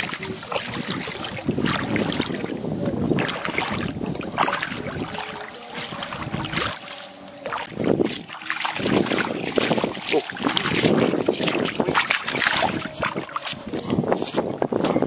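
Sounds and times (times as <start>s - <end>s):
feet splashing through water: 0.0s - 15.0s.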